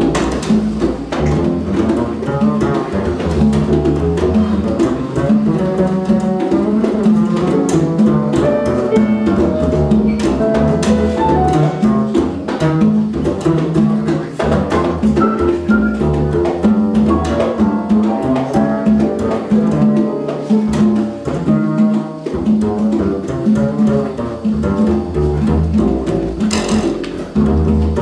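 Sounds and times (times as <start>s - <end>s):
hand percussion and drums: 0.0s - 28.0s
plucked double bass: 0.0s - 28.0s.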